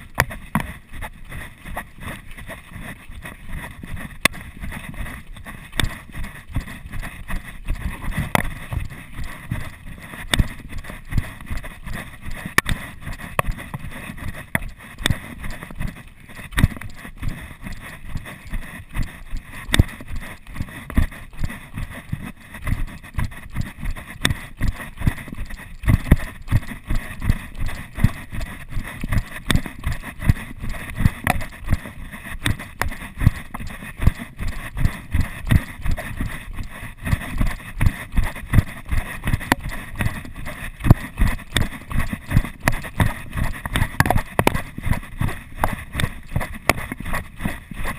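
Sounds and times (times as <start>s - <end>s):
footsteps on gravel trail: 0.0s - 47.9s
camera jostling: 2.9s - 47.9s.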